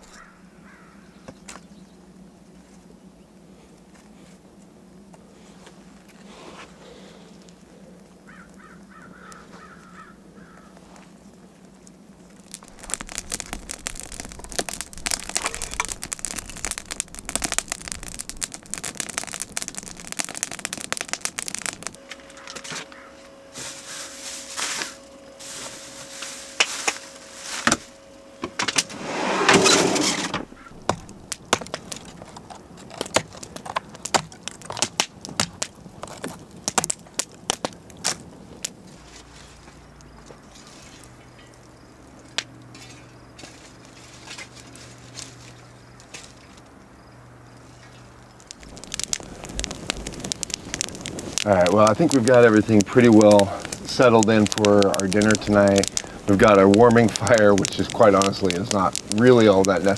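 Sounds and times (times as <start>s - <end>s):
campfire crackling and popping: 0.0s - 2.3s, 3.0s - 59.9s.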